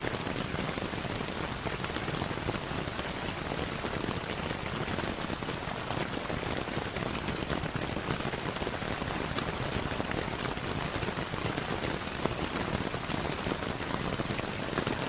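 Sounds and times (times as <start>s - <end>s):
steady rain patter: 0.0s - 15.0s.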